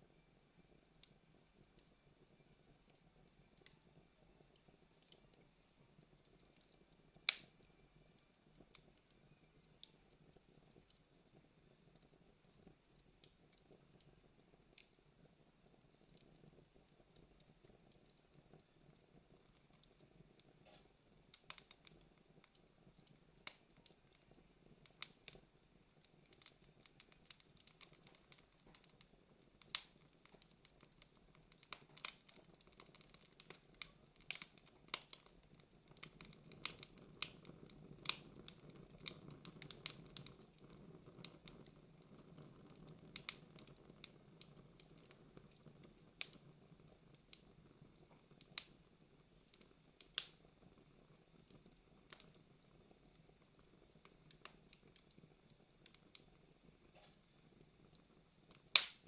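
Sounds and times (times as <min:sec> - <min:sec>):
campfire crackling: 0:02.7 - 0:59.0.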